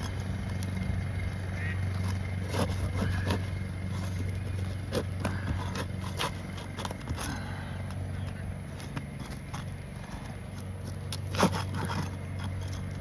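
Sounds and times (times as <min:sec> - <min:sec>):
steady low hum: 0:00.0 - 0:13.0
shingle tool scraping and cracking: 0:01.8 - 0:13.0.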